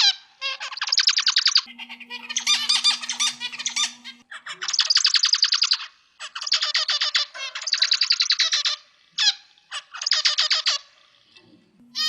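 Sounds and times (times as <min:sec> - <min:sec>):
finch singing: 0:00.0 - 0:12.0
finch single calls: 0:00.0 - 0:12.0.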